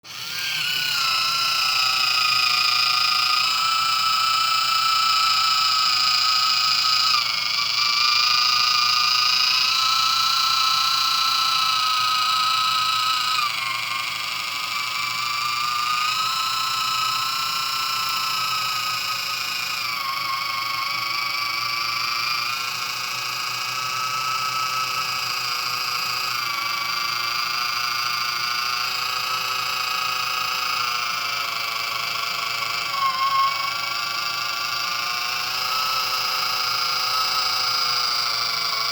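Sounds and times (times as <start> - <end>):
electric can opener motor whining: 0.0 - 38.9.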